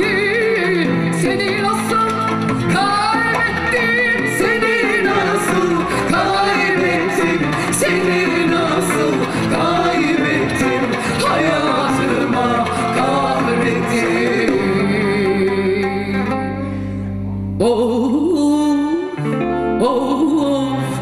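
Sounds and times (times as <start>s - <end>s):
woman singing into microphone: 0.0s - 16.6s, 17.6s - 21.0s
plucked strings: 0.0s - 21.0s.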